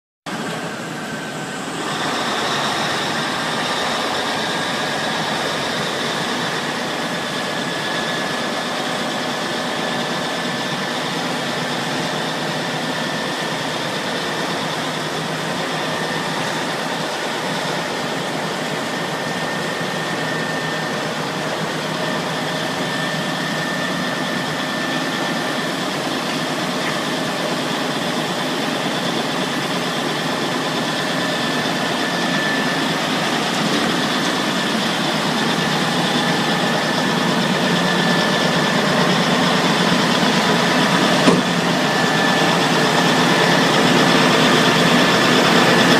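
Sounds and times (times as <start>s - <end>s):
high whine: 0.3s - 45.9s
large diesel engine running: 0.3s - 45.9s.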